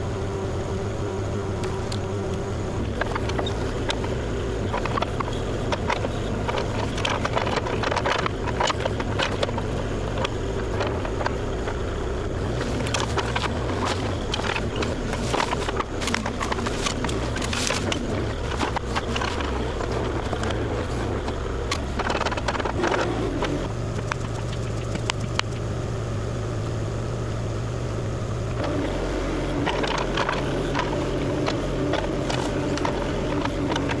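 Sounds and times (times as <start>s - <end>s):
excavator diesel engine running: 0.0s - 34.0s
knocks and cracks of brush: 1.5s - 11.8s, 12.4s - 25.6s, 28.5s - 34.0s.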